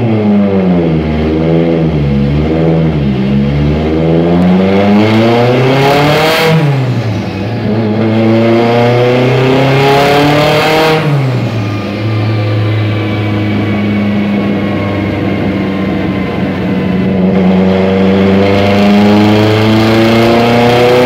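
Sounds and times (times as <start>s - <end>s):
turbocharged car engine revving: 0.0s - 21.0s.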